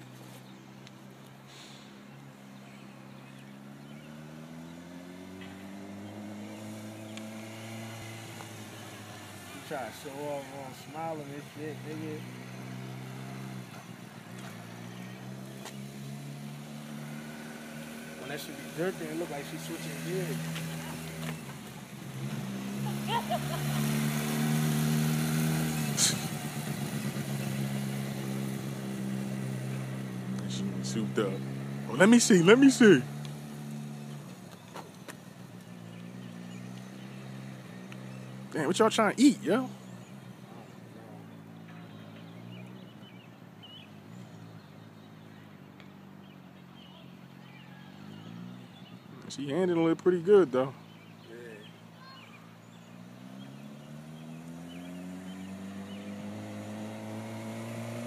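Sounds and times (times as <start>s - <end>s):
distant motorcycle engine accelerating: 0.0s - 58.0s.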